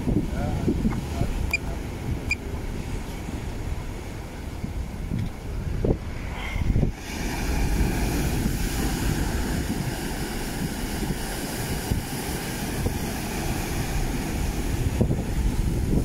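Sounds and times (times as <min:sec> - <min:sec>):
surf on rocky shore: 0:00.0 - 0:16.0.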